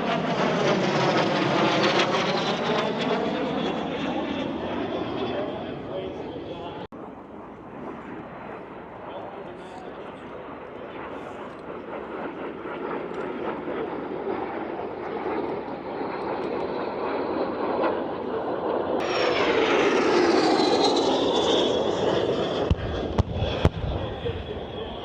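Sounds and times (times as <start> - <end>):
jet aircraft flying past: 0.0 - 25.0.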